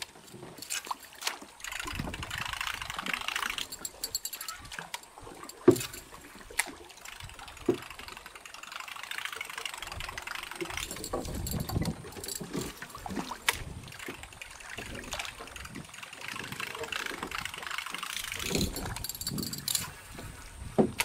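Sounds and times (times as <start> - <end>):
lure splashing on water: 0.0 - 20.3.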